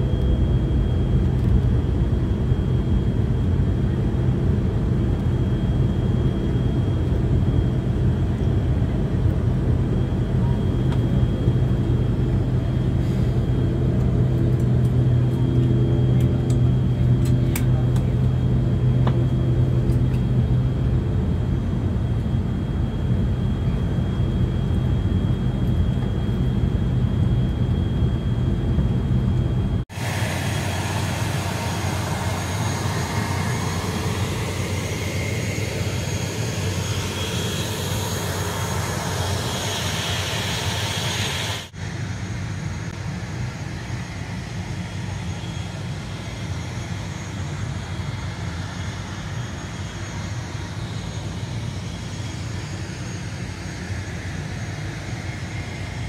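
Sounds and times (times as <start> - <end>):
turboprop engine drone: 0.0 - 56.0.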